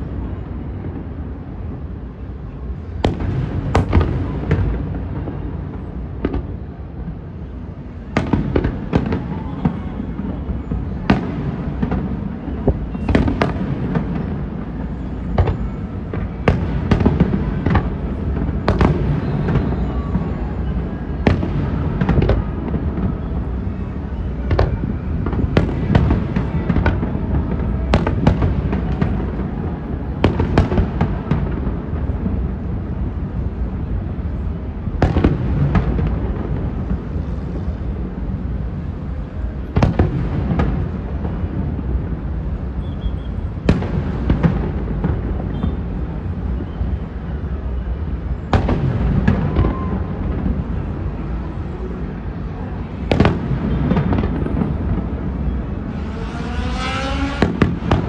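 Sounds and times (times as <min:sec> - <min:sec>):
low rumble of explosions: 0:00.0 - 0:56.2, 0:57.2 - 0:58.0
fireworks bangs: 0:00.1 - 0:58.0.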